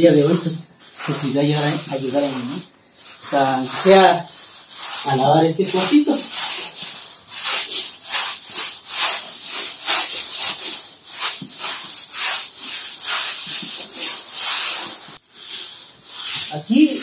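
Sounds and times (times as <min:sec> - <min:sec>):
push broom scrubbing wet concrete: 0:00.0 - 0:17.0.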